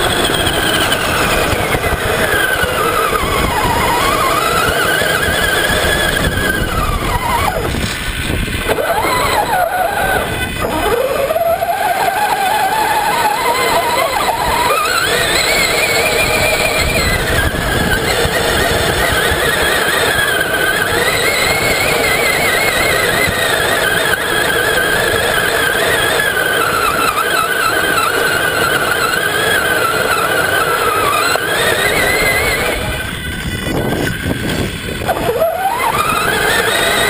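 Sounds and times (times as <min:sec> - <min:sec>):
electric motor and gears whining: 0:00.0 - 0:37.0
steady rushing noise: 0:00.0 - 0:37.0.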